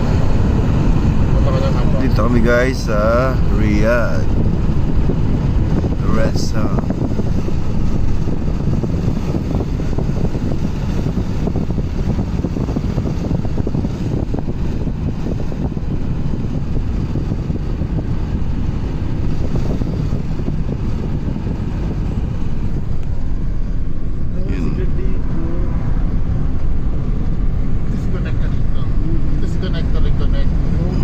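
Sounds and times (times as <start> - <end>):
vehicle rumble on road: 0.0 - 31.0
wind noise on microphone: 0.0 - 31.0.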